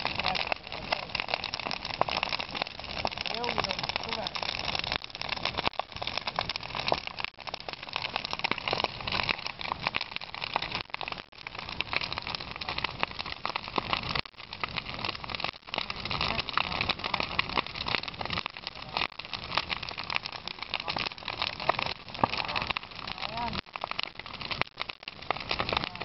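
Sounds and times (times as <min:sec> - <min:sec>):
burning timber crackling and popping: 0:00.0 - 0:26.0
flames rushing: 0:00.0 - 0:26.0.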